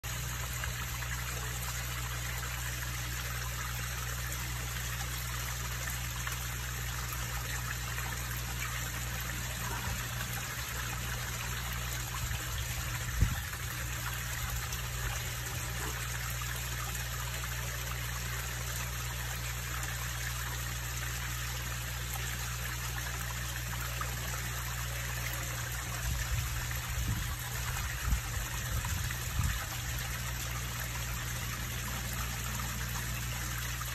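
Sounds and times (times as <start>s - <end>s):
low steady hum: 0.0s - 33.9s
waterfall splashing into pond: 0.0s - 33.9s.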